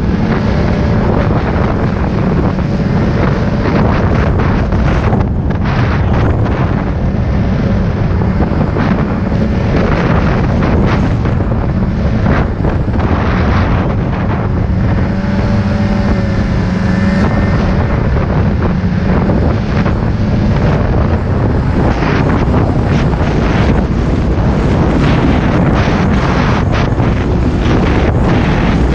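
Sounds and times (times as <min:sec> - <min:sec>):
snowmobile engine running: 0:00.0 - 0:28.9
wind buffeting microphone: 0:00.0 - 0:28.9.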